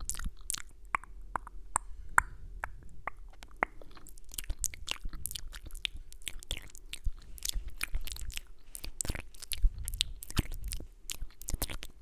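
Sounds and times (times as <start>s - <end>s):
tongue clicks: 0.0s - 12.0s.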